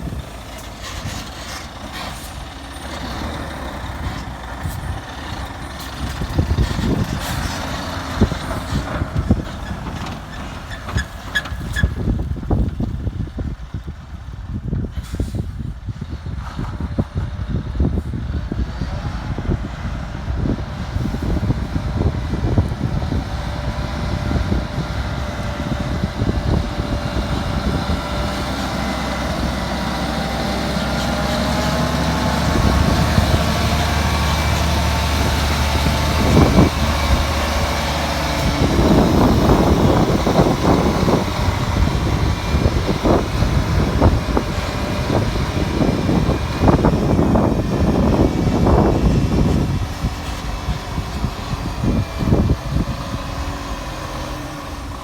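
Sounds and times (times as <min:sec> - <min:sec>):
engine knocks: 0:00.0 - 0:14.9, 0:15.6 - 0:55.0
diesel truck engine running: 0:00.0 - 0:55.0.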